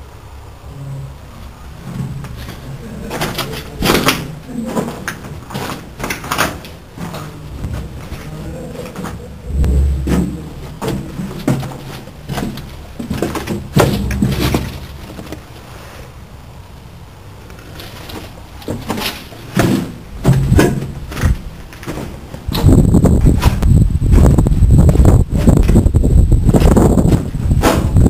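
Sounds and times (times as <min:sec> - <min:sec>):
footsteps on concrete with rubble: 0:01.8 - 0:15.8, 0:17.5 - 0:28.0
handheld camera knocks and rumbles: 0:01.9 - 0:15.6, 0:17.7 - 0:28.0.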